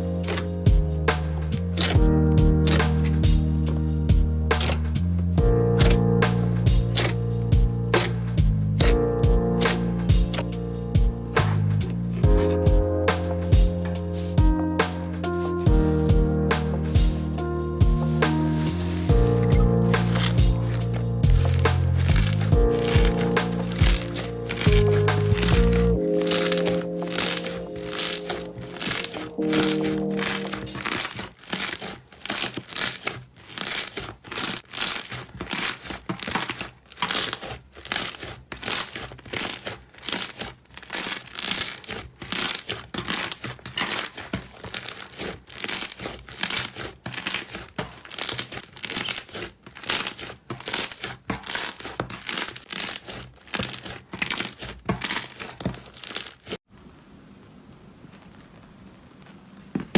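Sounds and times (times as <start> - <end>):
slime squelching and crackling: 0.0 - 56.7.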